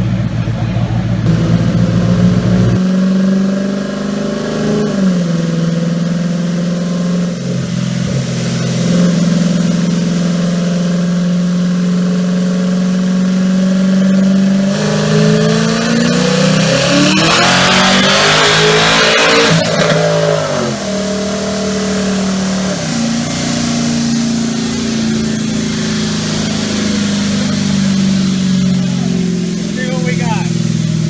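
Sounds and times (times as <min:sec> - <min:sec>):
car engine running and revving: 0:00.0 - 0:31.0.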